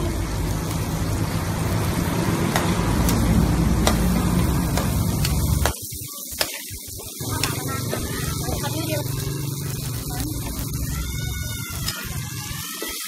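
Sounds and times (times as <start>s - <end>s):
oil popping: 0.0s - 13.0s
vegetables frying in oil: 0.0s - 13.0s.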